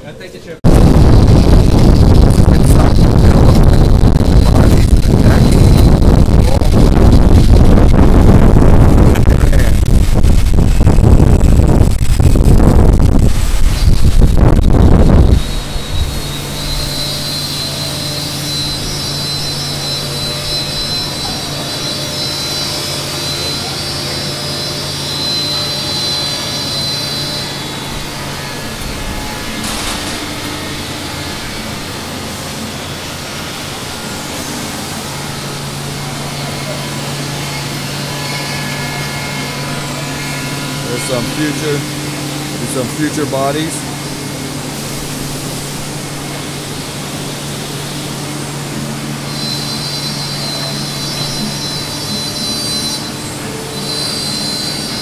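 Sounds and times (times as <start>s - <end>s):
high whine: 0.0s - 55.0s
woodworking machinery running: 0.0s - 55.0s
dust collection ducting: 0.6s - 55.0s.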